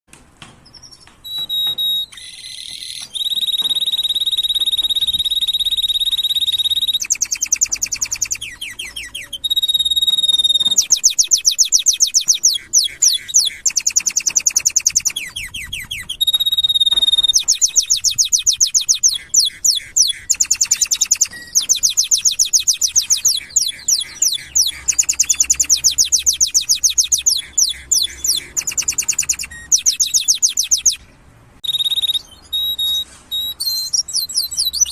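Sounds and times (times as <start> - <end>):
canary singing trills: 0.6 - 34.9.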